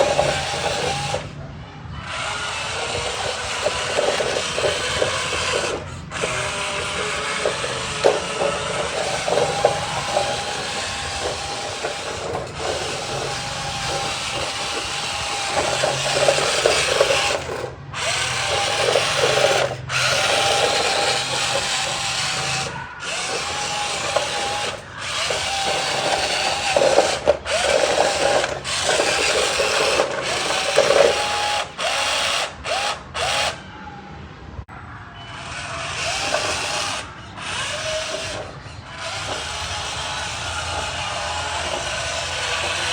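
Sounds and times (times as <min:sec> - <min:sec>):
small electric motor whirring: 0:00.0 - 0:01.4, 0:02.0 - 0:33.7, 0:35.4 - 0:42.9.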